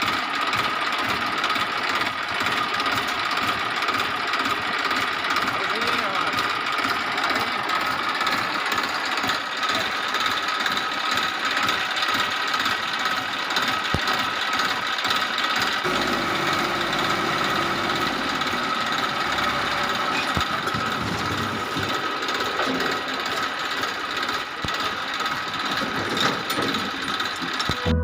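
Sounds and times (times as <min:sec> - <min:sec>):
toy tractor motor whining: 0:00.0 - 0:28.0.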